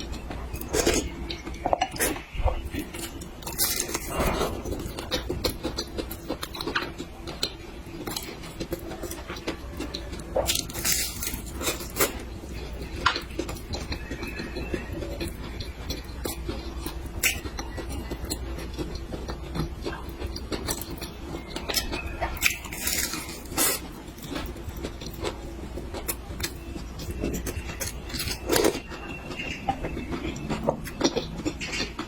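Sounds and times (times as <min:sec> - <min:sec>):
chewing with wet mouth clicks: 0:00.0 - 0:32.0.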